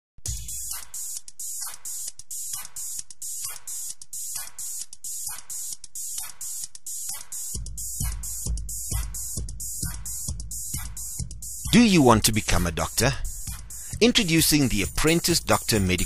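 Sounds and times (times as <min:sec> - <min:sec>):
deep bass beat: 0:00.2 - 0:16.0
drum machine beat: 0:00.2 - 0:16.0.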